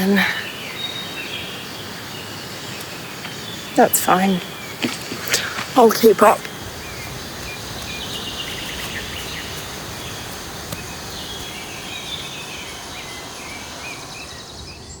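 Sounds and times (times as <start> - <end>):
birds chirping: 0.0 - 15.0
faint high insect drone: 0.0 - 15.0
outdoor background hiss: 0.0 - 15.0.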